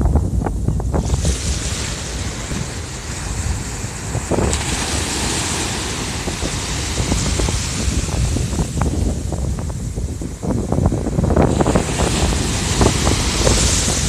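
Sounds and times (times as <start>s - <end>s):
wind buffeting microphone: 0.0s - 14.0s
surf waves crashing: 0.9s - 14.0s.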